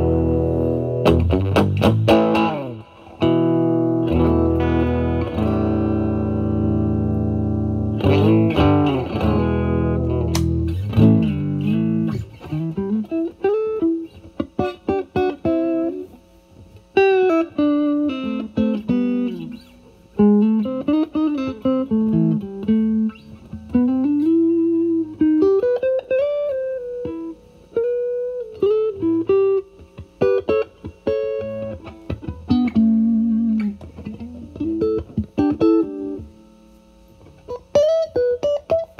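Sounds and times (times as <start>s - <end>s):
bluesy electric guitar lead: 0.0s - 38.9s
overdriven electric guitar chords: 0.0s - 38.9s.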